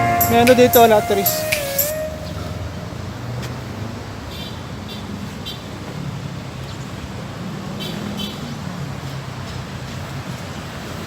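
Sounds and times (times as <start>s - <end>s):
vehicle engines passing: 0.0s - 11.0s.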